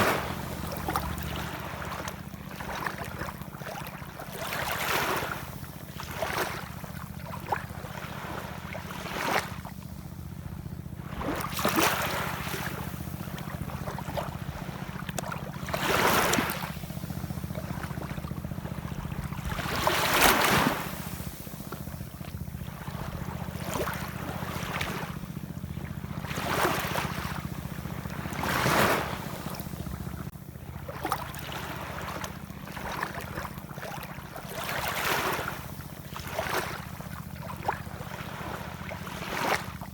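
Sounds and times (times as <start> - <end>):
ocean waves washing in: 0.0 - 39.7.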